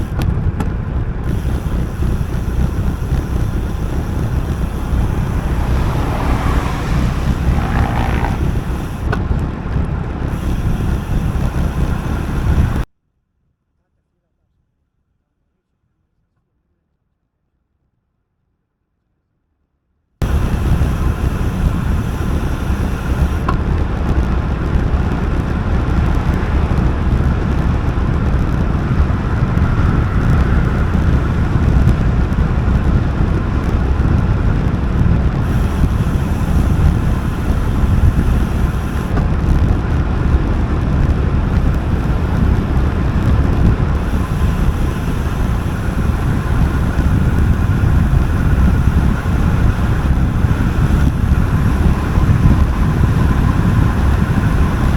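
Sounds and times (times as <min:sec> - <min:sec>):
wind buffeting microphone: 0:00.0 - 0:12.8, 0:20.2 - 0:54.9.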